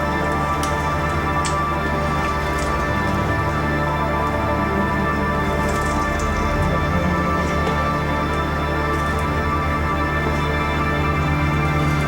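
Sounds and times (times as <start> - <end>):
music of sustained chords: 0.0 - 12.0.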